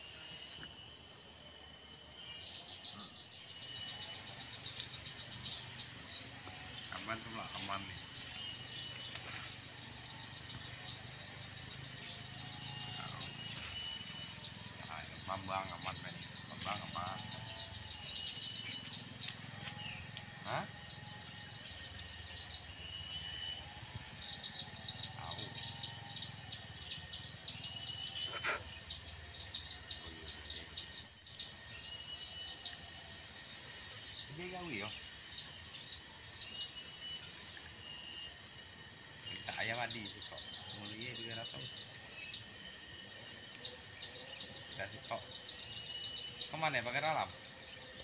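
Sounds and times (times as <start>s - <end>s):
crickets trilling: 0.0s - 48.0s
high-pitched insect shrilling: 0.0s - 48.0s.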